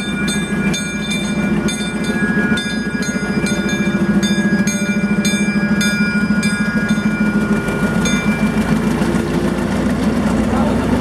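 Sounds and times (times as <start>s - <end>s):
locomotive bell ringing: 0.0s - 11.0s
locomotive engine running: 0.0s - 11.0s.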